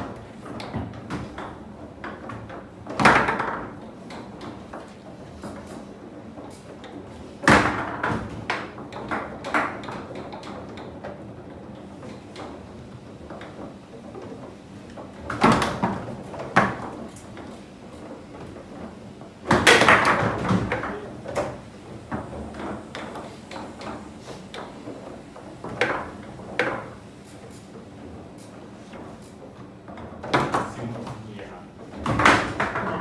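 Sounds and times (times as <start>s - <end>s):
foosball ball and rods knocking: 0.0s - 31.2s, 31.8s - 33.0s.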